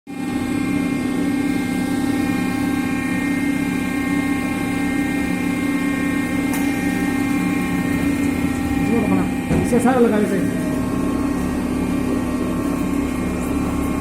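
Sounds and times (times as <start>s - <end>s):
lathe machine hum and whine: 0.1s - 14.0s.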